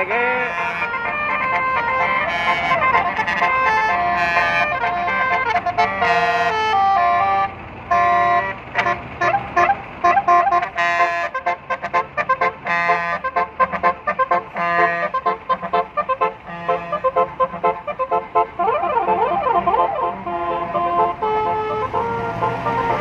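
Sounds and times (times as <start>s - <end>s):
musical bus horn melody: 0.0s - 23.0s.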